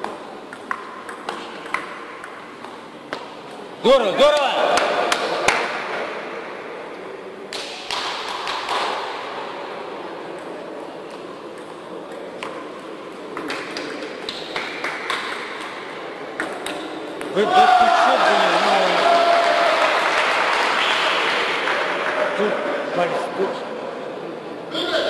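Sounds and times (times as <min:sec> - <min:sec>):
hum of large hall: 0:00.0 - 0:25.0.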